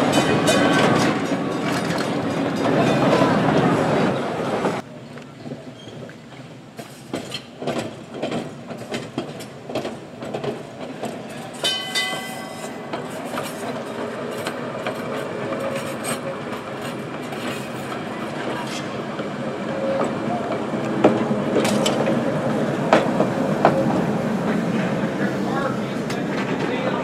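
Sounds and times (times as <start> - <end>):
trolley car wheels clacking: 0.0 - 27.0.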